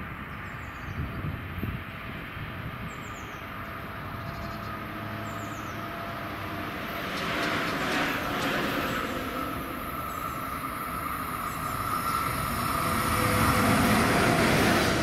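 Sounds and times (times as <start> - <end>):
train wheel and rail noise: 0.0 - 15.0.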